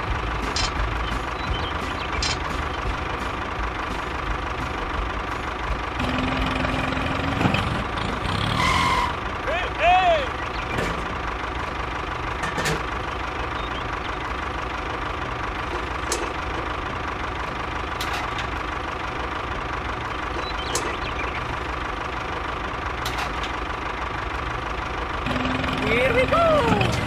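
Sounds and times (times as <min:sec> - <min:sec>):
engine idling drone: 0:00.0 - 0:27.0.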